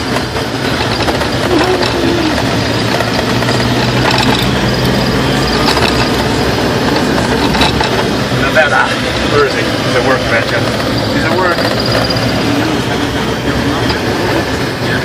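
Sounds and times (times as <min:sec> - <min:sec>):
rushing noise of travel: 0:00.0 - 0:15.0
vehicle engine running: 0:00.0 - 0:15.0.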